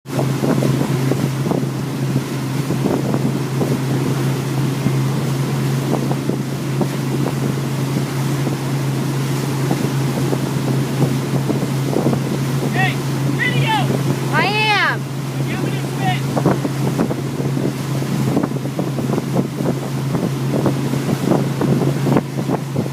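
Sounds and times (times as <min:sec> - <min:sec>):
water rushing and splashing: 0:00.0 - 0:22.9
boat engine drone: 0:00.1 - 0:22.9
wind buffeting microphone: 0:00.1 - 0:22.9.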